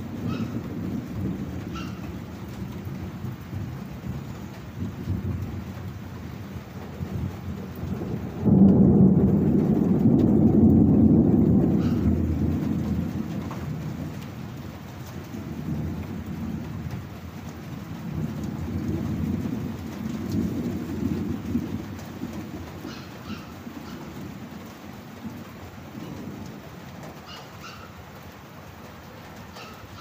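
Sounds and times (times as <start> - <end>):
thunder rumbling: 0.0 - 27.8
steady rain: 0.0 - 30.0.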